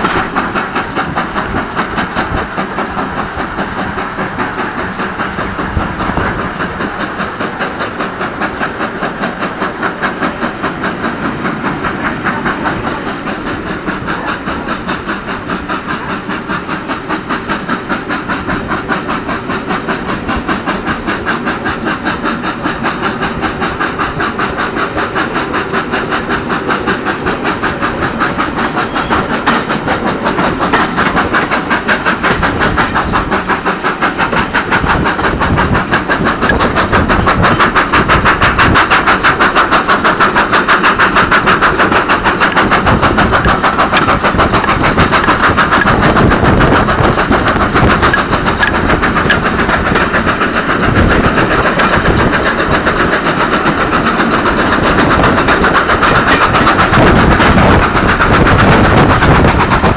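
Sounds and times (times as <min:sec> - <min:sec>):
carriage wheels on rails: 0:00.0 - 0:59.9
steam locomotive chuffing: 0:00.0 - 0:59.9.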